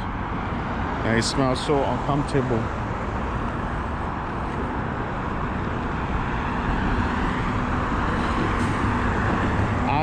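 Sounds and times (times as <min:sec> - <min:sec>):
road traffic passing cars: 0:00.0 - 0:10.0.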